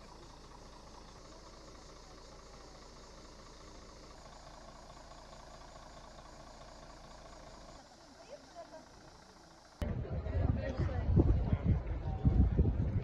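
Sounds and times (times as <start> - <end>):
coach engine idling: 0.0 - 13.0.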